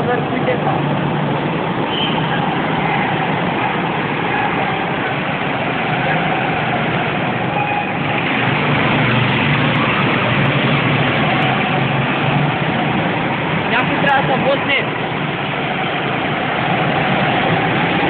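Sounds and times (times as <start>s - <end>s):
go-kart engines running: 0.0s - 18.0s.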